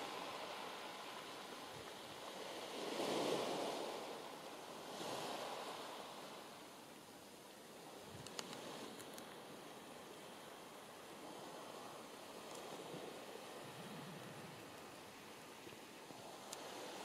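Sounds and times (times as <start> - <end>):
sea waves breaking on beach: 0.0 - 6.8, 7.7 - 17.0.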